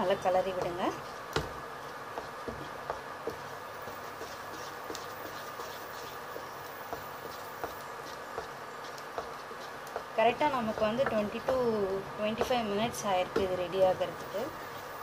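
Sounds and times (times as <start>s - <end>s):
induction cooktop buzzing hum: 0.0s - 15.0s
wooden spatula scraping a pan: 0.0s - 15.0s.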